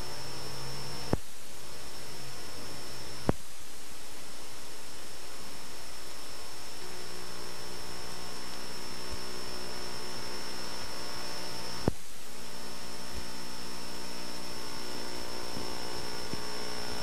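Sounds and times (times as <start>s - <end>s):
tape hiss and electrical hum: 0.0s - 17.0s.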